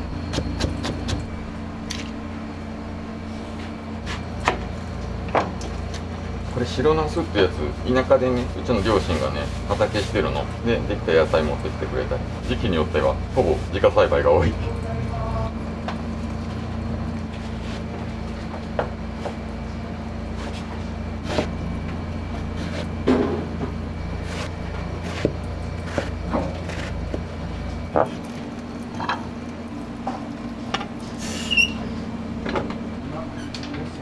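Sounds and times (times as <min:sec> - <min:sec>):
steady machine hum: 0:00.0 - 0:34.0.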